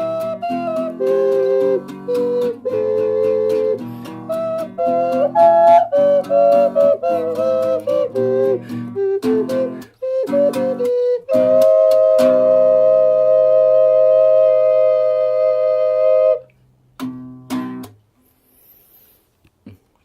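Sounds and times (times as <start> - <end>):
wooden ocarina duet: 0.0 - 16.6
plucked guitar: 0.0 - 18.1.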